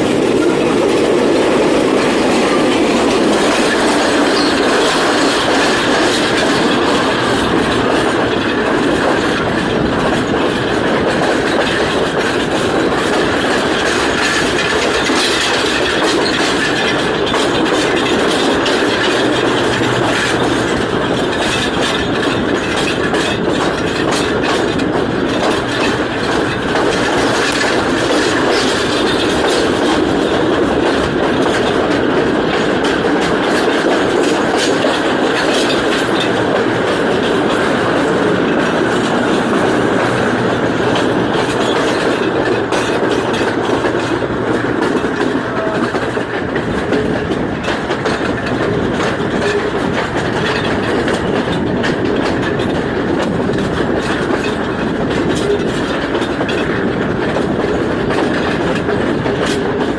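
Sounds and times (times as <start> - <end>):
rail joint clicks: 0.0 - 59.9
train wheels rumbling on rail: 0.0 - 59.9.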